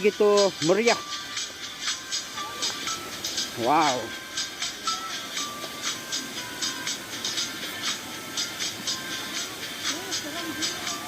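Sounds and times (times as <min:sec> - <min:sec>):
background music with percussion: 0:00.0 - 0:11.0.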